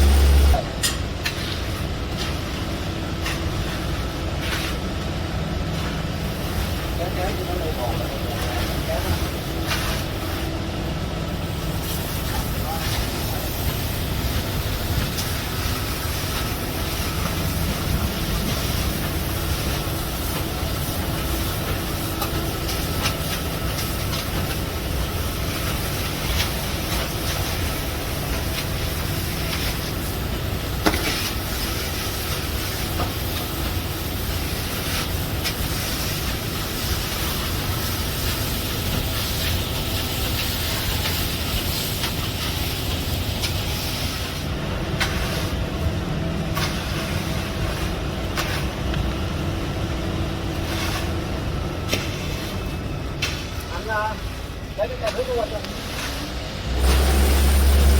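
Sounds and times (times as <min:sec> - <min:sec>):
machinery rumble and hiss: 0:00.0 - 0:57.9.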